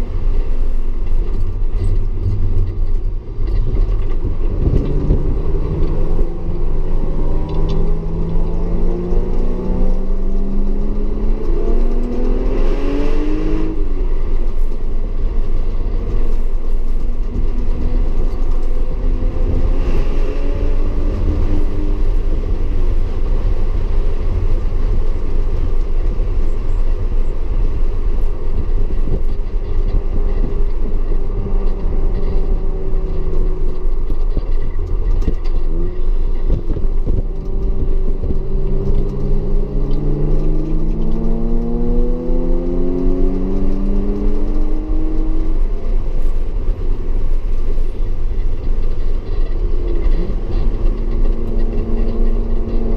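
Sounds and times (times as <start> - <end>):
car engine accelerating: 0.0 - 52.9
road and tyre noise: 0.0 - 52.9.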